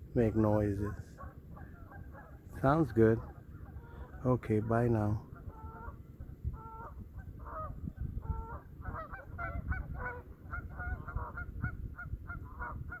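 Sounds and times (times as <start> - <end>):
geese honking: 0.3 - 13.0.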